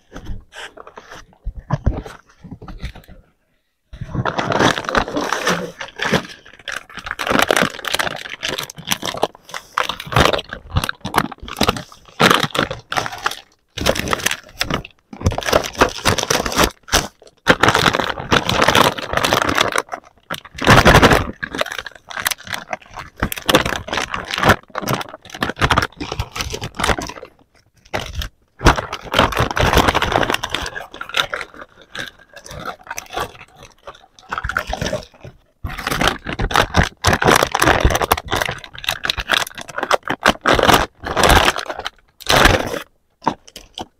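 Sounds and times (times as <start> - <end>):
plastic wrapping crinkling: 4.0 - 43.9
plastic toy pieces clattering: 4.3 - 43.9.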